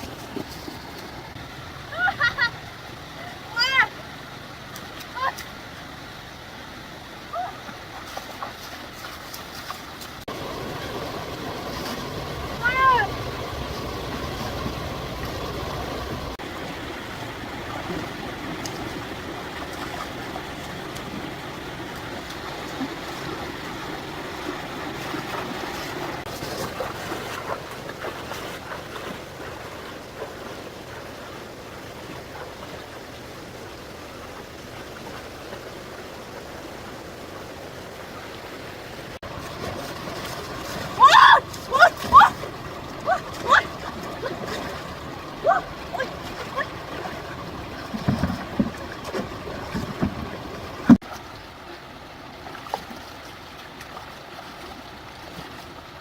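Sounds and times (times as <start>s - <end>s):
running stream water: 0.0s - 56.0s.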